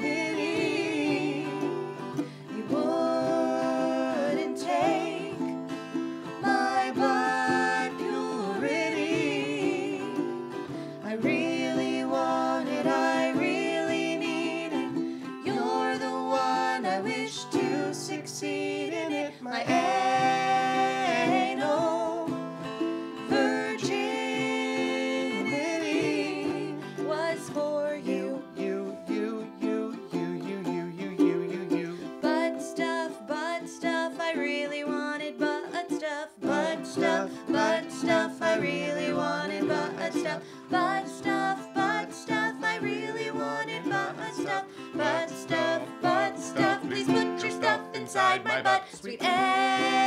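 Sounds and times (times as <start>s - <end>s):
person singing: 0.0s - 50.0s
ukulele and guitar strumming: 0.0s - 50.0s.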